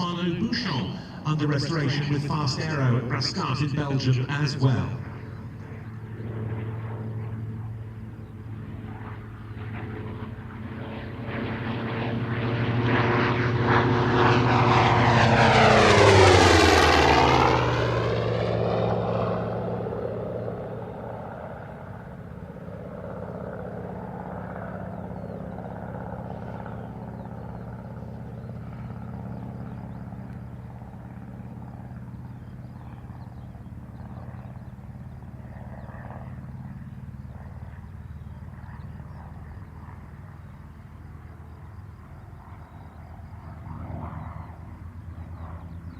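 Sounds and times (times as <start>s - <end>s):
propeller plane passing low: 0.0s - 45.9s.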